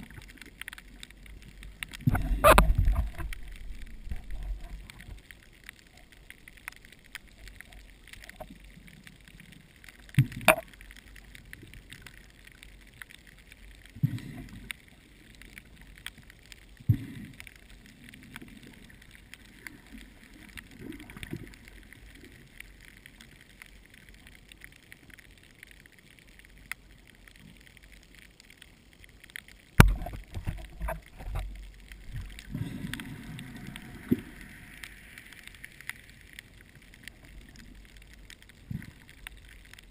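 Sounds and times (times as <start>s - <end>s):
underwater water wash: 0.0s - 39.9s.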